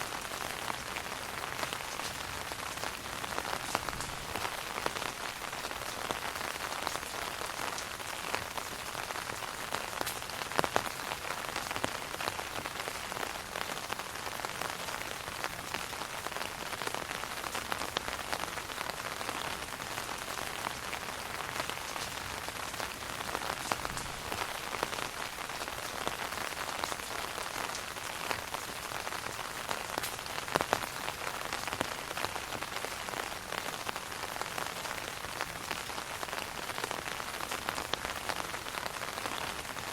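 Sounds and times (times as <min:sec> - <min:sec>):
rain falling on an umbrella: 0:00.0 - 0:39.9.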